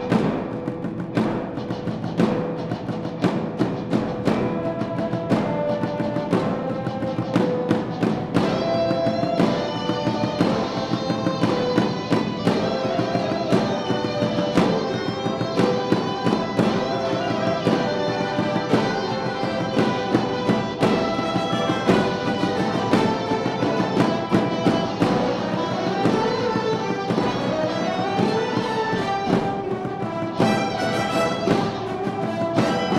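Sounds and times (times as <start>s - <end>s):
wind band playing: 4.2s - 32.9s.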